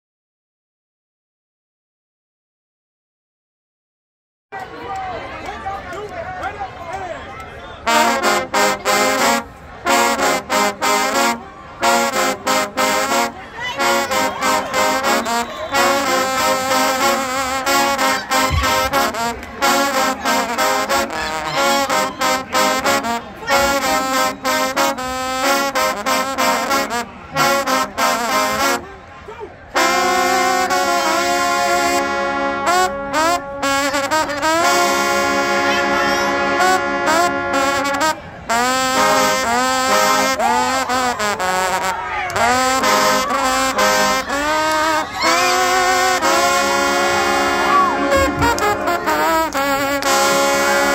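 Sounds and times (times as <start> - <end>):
trombones playing a tune: 7.8 - 29.1, 29.7 - 50.9.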